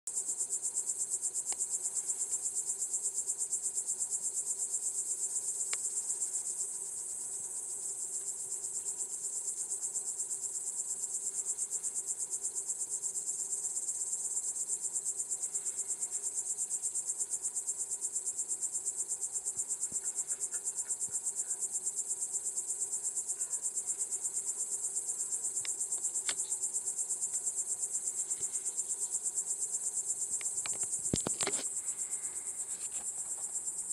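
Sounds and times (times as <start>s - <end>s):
crickets chirring: 0.1s - 33.9s.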